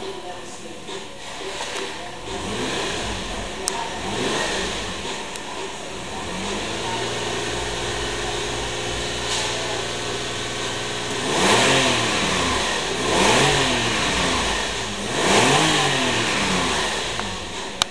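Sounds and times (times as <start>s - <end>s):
car engine idling and revving: 1.2s - 17.9s.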